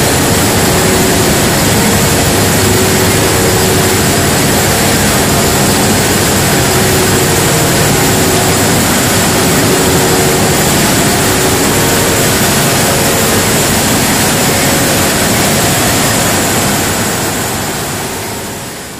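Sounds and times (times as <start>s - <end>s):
diesel generator droning: 0.0s - 18.9s.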